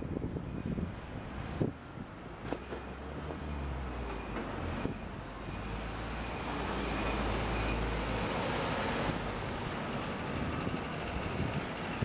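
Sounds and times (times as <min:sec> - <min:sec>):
road noise: 0:00.0 - 0:12.0
heavy truck engine drone: 0:02.3 - 0:12.0.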